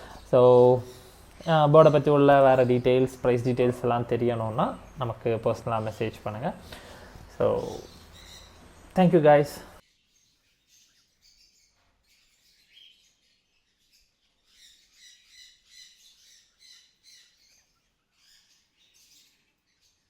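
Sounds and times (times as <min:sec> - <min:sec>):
lovebirds chirping: 0:00.0 - 0:20.0.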